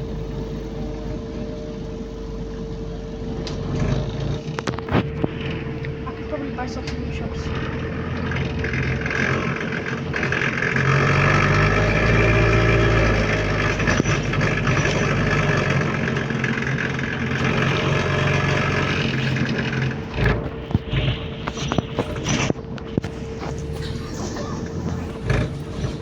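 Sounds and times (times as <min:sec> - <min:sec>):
rattly bus engine: 0:00.0 - 0:26.0.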